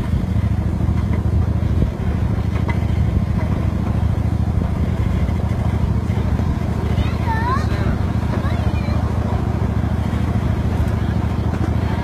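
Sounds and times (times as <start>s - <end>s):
mini train engine running: 0.0s - 12.0s.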